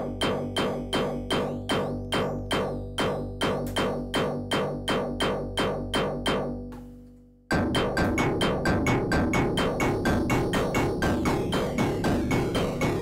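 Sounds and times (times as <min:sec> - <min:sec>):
synthesizer plucked note pattern: 0:00.0 - 0:13.0.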